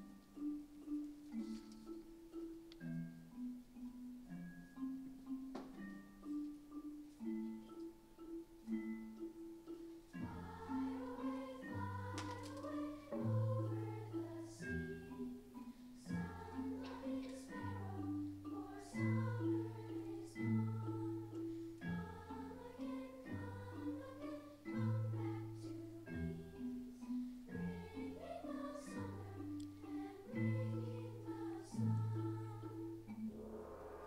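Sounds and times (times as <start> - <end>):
tuned mallet percussion pattern: 0.0 - 34.0
wavering higher melody: 0.0 - 34.0.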